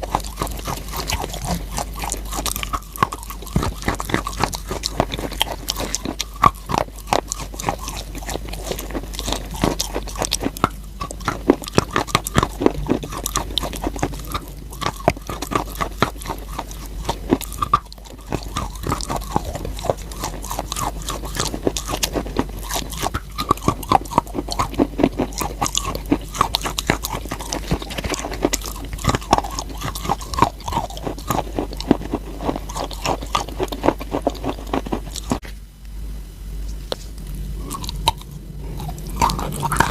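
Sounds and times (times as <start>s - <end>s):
chewing chalk crunches: 0.0s - 35.5s, 36.9s - 39.9s.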